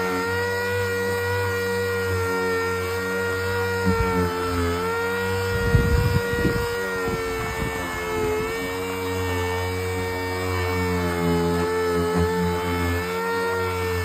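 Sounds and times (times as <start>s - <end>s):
electric polishing machine whine: 0.0s - 14.0s.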